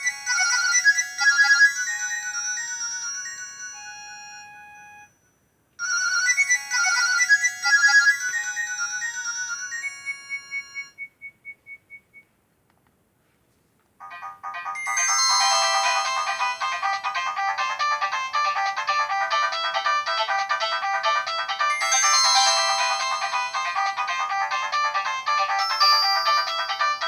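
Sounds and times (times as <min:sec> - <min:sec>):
mobile phone ringtone melody: 0:00.0 - 0:11.0, 0:14.0 - 0:27.0.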